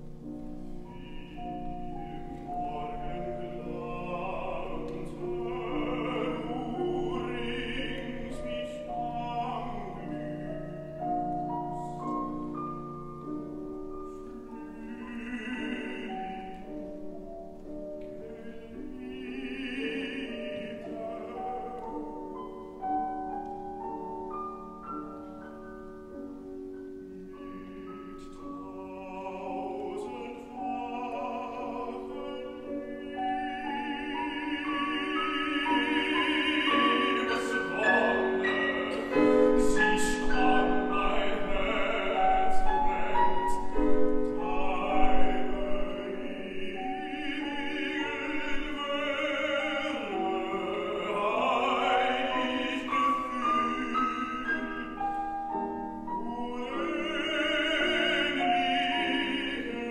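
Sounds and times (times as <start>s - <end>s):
baritone operatic singing: 0.0s - 59.9s
grand piano: 0.0s - 59.9s.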